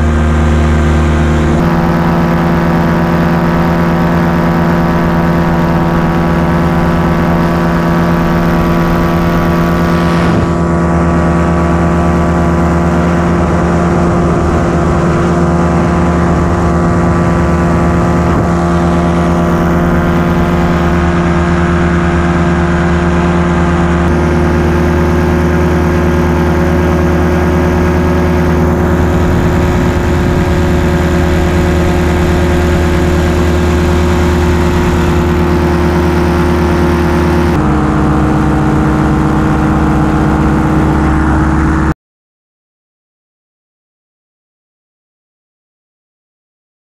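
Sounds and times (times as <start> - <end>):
paramotor engine droning: 0.0 - 41.9.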